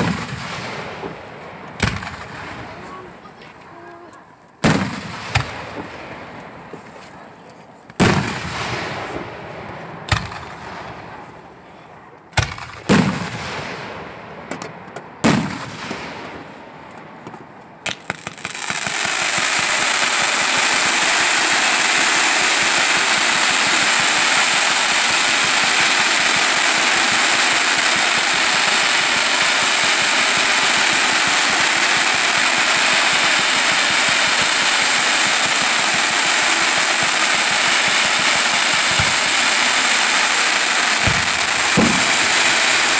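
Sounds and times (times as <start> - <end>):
firework shells bursting: 0.0 - 3.7, 4.5 - 7.0, 7.8 - 11.6, 12.3 - 42.9
firework fountain hissing: 0.0 - 11.7, 17.9 - 42.9.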